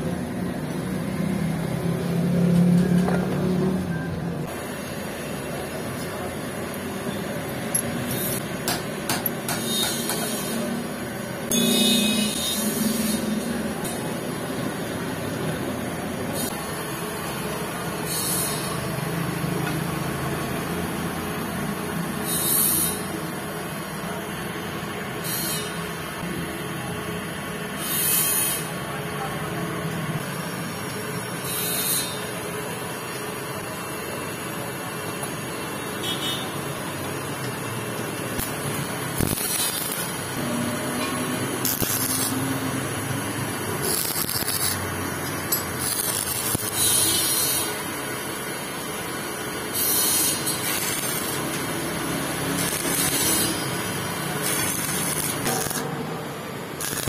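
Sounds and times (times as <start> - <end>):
steady background noise: 0.0 - 57.0
arc welding crackling and hissing: 4.4 - 57.0.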